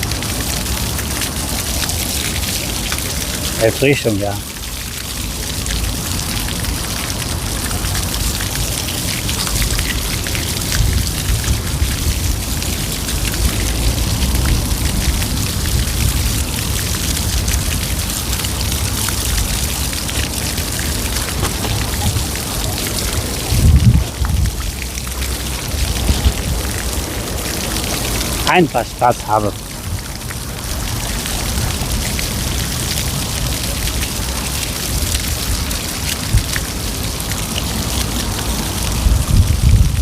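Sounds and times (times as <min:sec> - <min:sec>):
rain pattering: 0:00.0 - 0:40.0.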